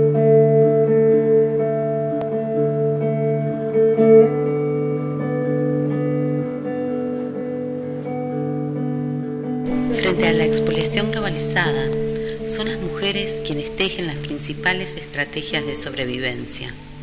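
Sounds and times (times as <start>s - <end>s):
guitar playing slow chords: 0.0s - 17.0s.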